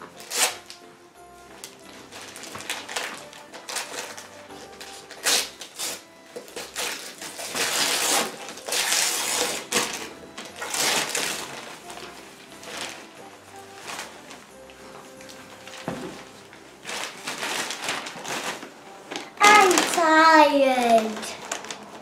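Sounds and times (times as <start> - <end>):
wrapping paper tearing and rustling: 0.0 - 0.8, 1.5 - 22.0.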